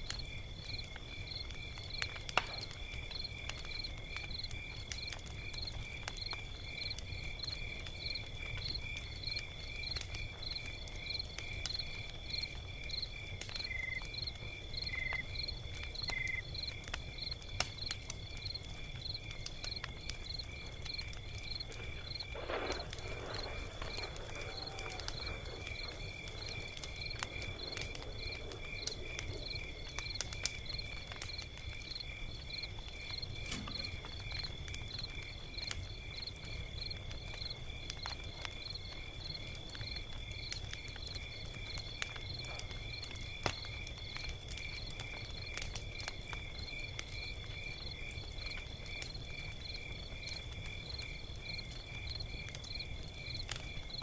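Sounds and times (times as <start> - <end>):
log fire crackling: 0.0 - 54.0
insects chirping: 0.1 - 54.0.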